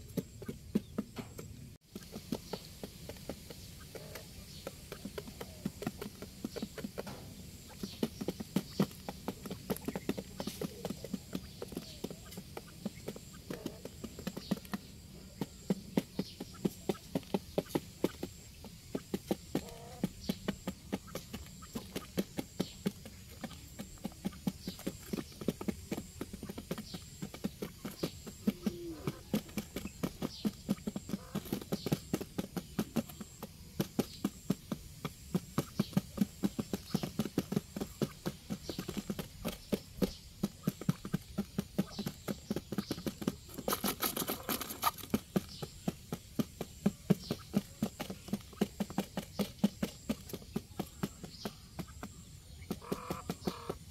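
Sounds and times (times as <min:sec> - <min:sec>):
beaks tapping on cardboard: 0:00.0 - 0:53.9.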